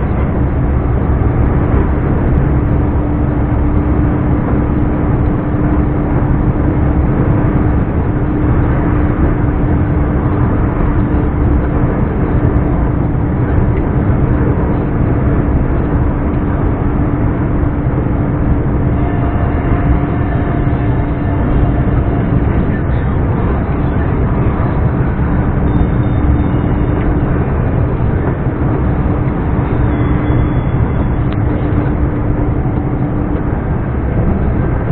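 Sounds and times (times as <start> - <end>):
truck diesel engine running: 0.0 - 34.9.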